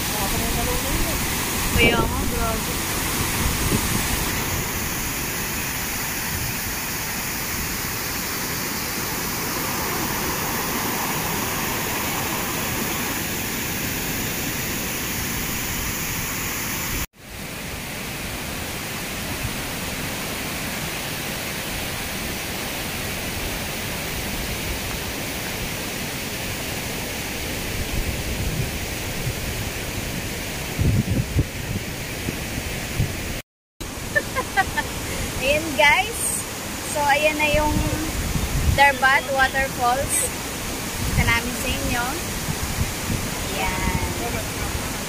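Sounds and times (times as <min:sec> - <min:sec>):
waterfall rushing: 0:00.0 - 0:30.8, 0:31.6 - 0:45.0.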